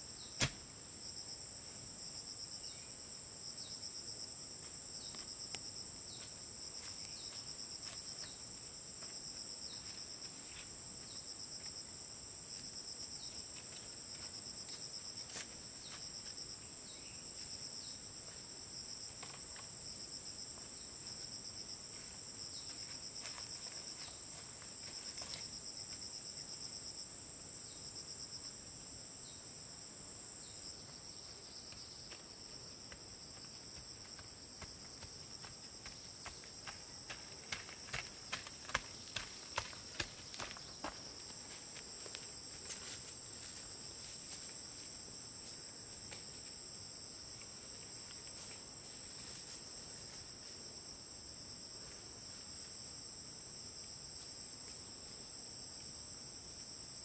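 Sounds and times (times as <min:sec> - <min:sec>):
steady high-pitched insect trill: 0:00.0 - 0:57.0.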